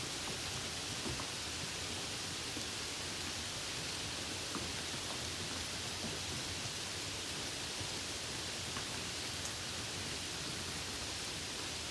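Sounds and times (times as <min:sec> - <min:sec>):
steady rain falling: 0:00.0 - 0:11.9.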